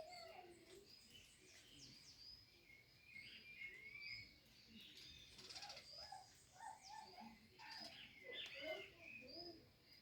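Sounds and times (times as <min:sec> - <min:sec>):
small birds singing: 0:00.0 - 0:10.0.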